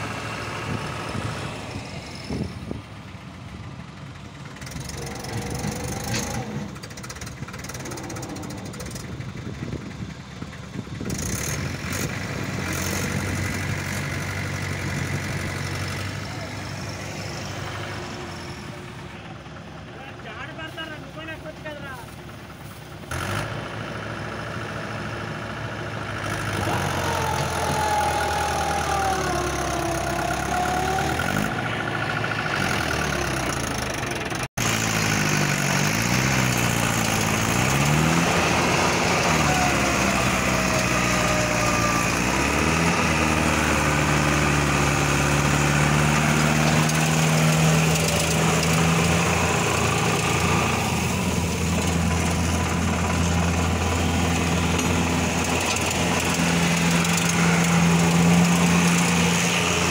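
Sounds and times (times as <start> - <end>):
tractor diesel engines revving: 0.0 - 59.9.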